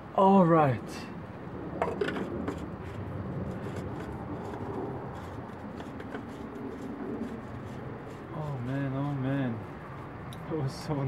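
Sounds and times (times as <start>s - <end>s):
light scraping: 1.8s - 11.0s.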